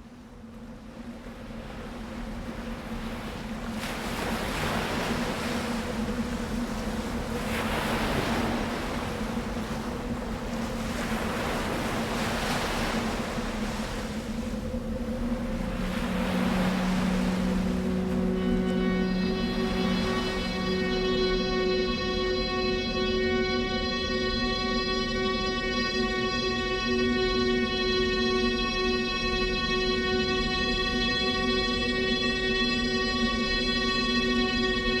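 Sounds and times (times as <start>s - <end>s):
low droning tone: 0.0s - 35.0s
ocean waves washing in: 0.0s - 35.0s.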